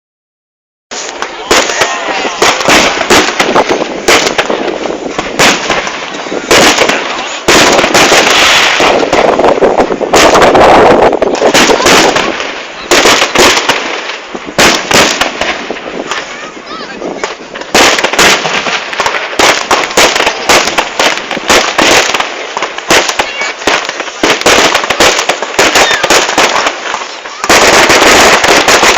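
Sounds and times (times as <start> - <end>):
firecrackers and rockets banging: 0.9 - 28.9.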